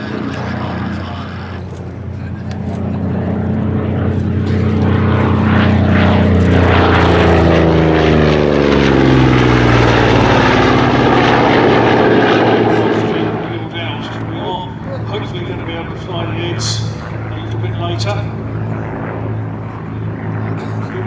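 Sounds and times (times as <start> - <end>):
propeller plane flying past: 0.0 - 21.0.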